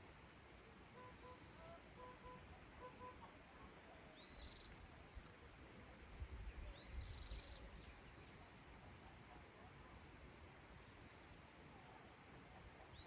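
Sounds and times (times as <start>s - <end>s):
high insect hiss: 0.0s - 13.0s.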